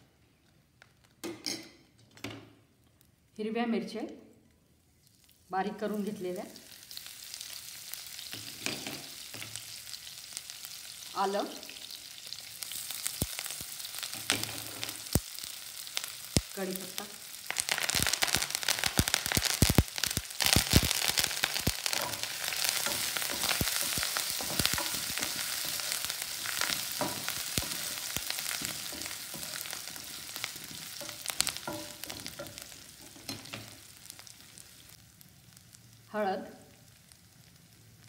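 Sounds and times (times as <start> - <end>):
leaves sizzling in hot oil: 5.0 - 38.0.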